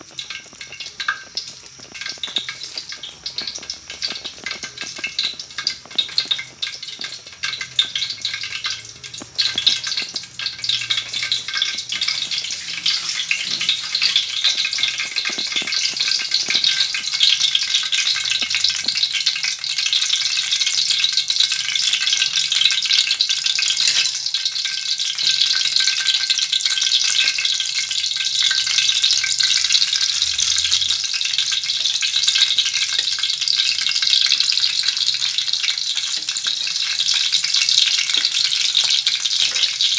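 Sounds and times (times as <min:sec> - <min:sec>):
oil sizzling in a wok: 0:00.0 - 0:39.9.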